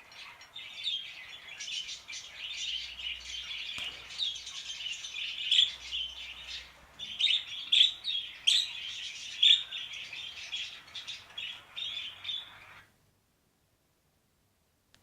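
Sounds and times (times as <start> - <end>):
parakeets chirping and chattering: 0.0 - 12.9.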